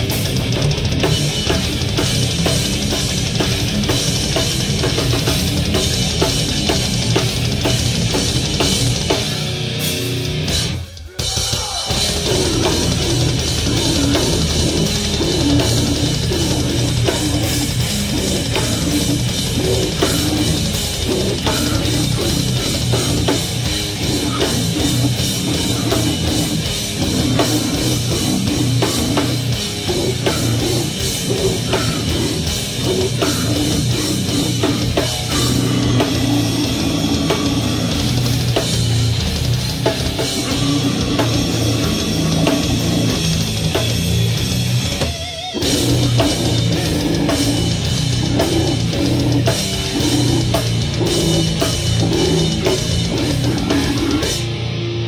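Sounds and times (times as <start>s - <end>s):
death metal band playing live: 0.0s - 55.0s
fast pounding drums: 0.0s - 55.0s
vocalist growling: 10.6s - 55.0s.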